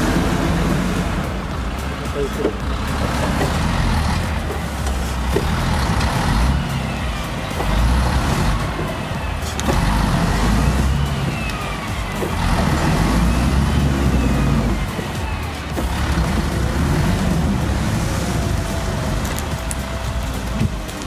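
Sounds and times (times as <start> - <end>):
truck diesel engine rumbling: 0.0 - 21.0
whine rising and falling: 0.0 - 21.0.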